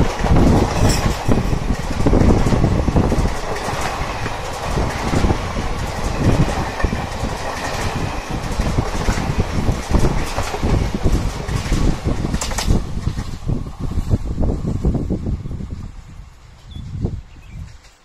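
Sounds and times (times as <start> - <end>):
wheels clattering over rail joints: 0.0 - 15.1
passing train rumble: 0.0 - 18.0.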